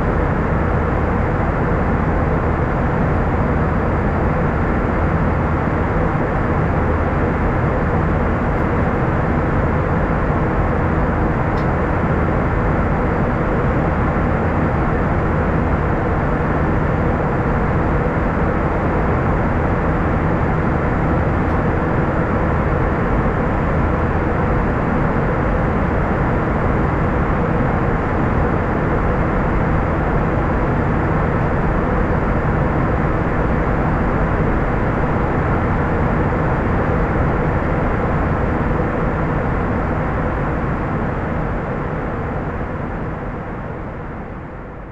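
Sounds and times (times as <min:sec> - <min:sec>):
aircraft cabin engine rumble: 0:00.0 - 0:44.9.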